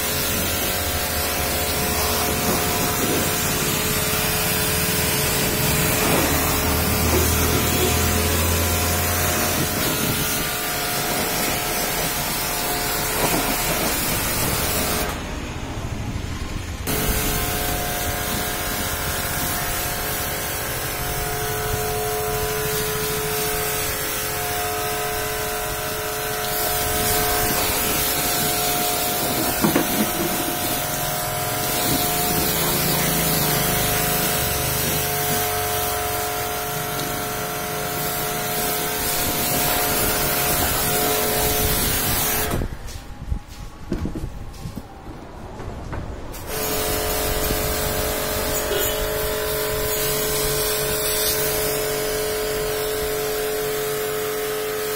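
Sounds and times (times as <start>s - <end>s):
water jet spraying on car: 0.0s - 43.0s, 46.3s - 54.9s
pressure washer motor whine: 0.0s - 44.7s, 46.3s - 54.9s.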